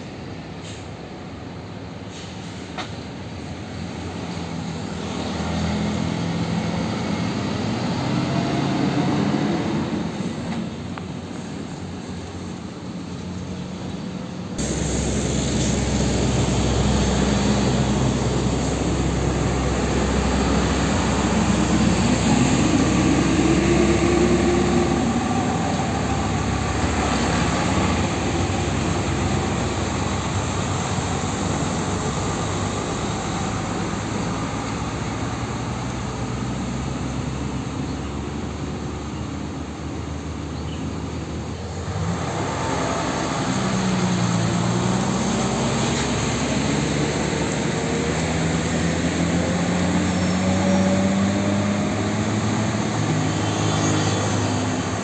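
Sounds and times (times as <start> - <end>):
diesel truck engine accelerating: 0.0 - 55.0
street traffic: 0.0 - 55.0.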